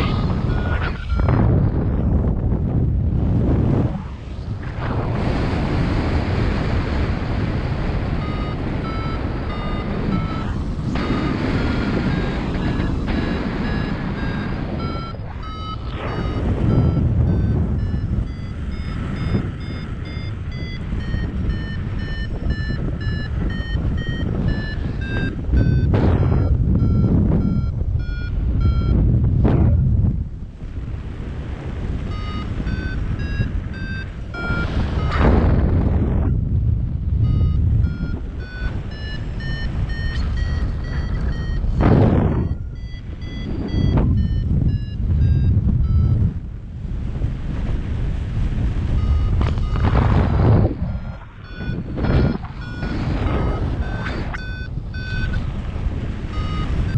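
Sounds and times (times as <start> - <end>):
variometer beeping: 0.0 - 1.6, 7.4 - 29.3, 31.7 - 36.4, 37.0 - 46.5, 48.5 - 56.9
wind gusts on microphone: 0.0 - 56.9.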